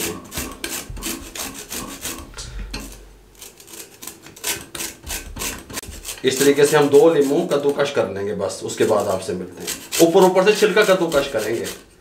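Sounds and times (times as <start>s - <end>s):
lemon grated on metal grater: 0.0s - 12.0s.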